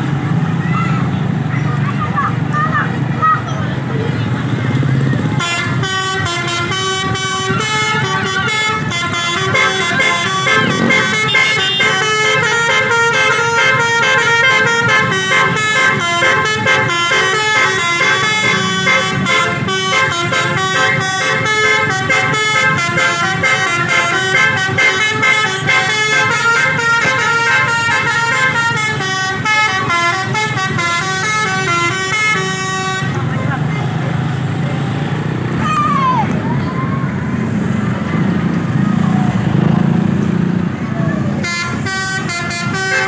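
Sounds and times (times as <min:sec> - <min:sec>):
multi-tone bus horn melody: 0:02.5 - 0:36.1, 0:37.4 - 0:43.0.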